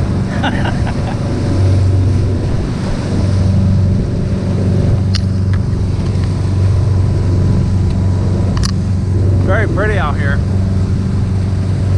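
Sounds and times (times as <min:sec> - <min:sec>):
boat engine running: 0:00.0 - 0:11.9
water noise: 0:00.0 - 0:11.9
wind: 0:00.0 - 0:11.9.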